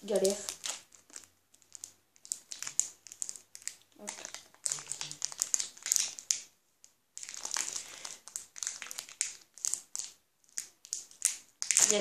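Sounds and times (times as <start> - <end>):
foil wrapper crinkling: 0.1 - 6.5, 7.2 - 12.0.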